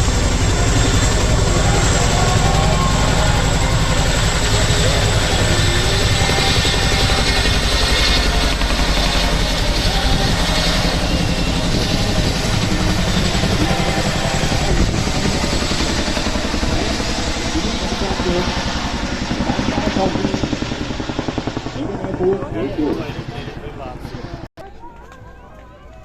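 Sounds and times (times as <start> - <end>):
helicopter rotors chopping: 0.0 - 25.2.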